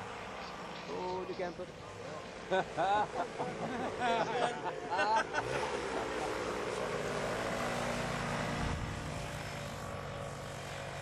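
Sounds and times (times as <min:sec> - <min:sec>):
paramotor engine and propeller: 0:00.0 - 0:11.0.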